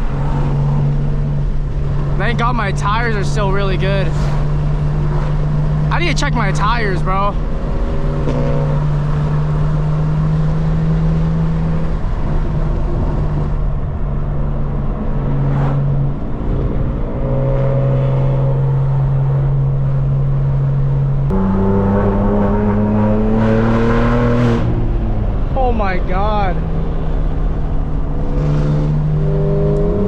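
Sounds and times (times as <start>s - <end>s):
car exhaust accelerating: 0.0s - 30.0s.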